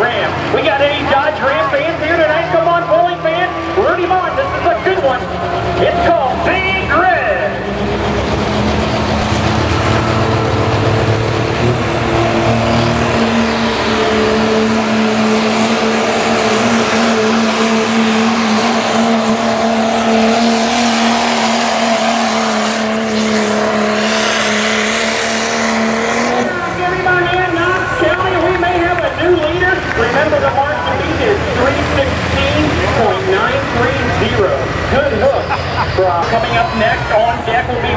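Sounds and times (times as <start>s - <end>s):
diesel truck engine under load: 0.0s - 37.9s.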